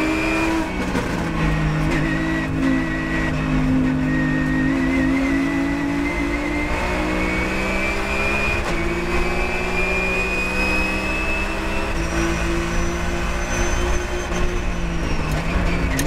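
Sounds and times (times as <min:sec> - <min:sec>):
engine accelerating hard: 0:00.0 - 0:16.0
wind and road noise: 0:00.0 - 0:16.0.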